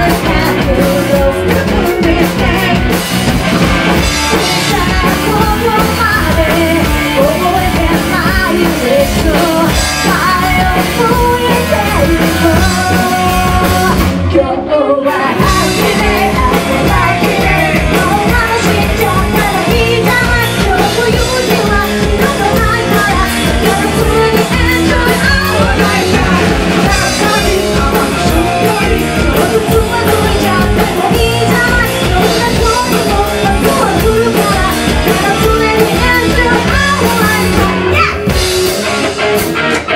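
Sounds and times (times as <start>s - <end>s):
woman singing into microphone: 0.0s - 3.1s, 4.3s - 38.4s
bass guitar: 0.0s - 39.9s
drums: 0.0s - 39.9s
electric guitar: 0.0s - 39.9s.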